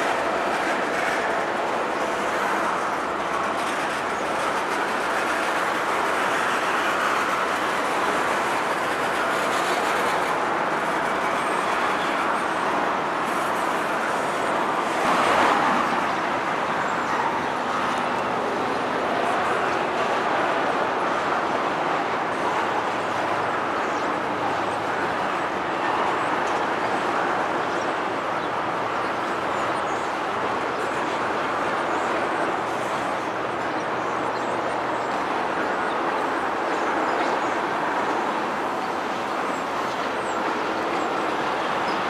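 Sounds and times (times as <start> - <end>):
freight train wheels on rails: 0.0 - 42.0.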